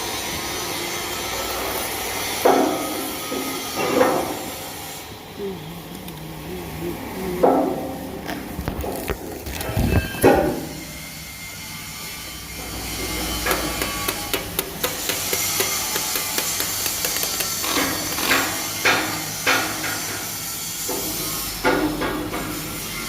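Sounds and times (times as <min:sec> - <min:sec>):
arc welding hiss and crackle: 0:00.0 - 0:05.3, 0:07.8 - 0:23.0.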